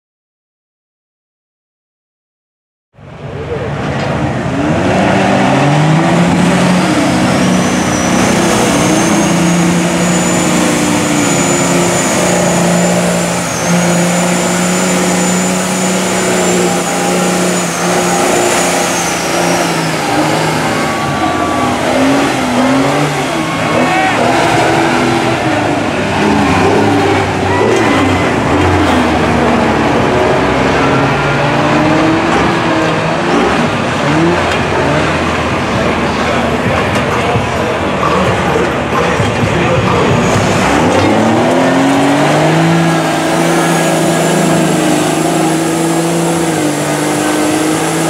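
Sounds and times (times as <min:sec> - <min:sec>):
high whine: 0:03.0 - 0:48.0
mud truck engines revving: 0:03.0 - 0:48.0.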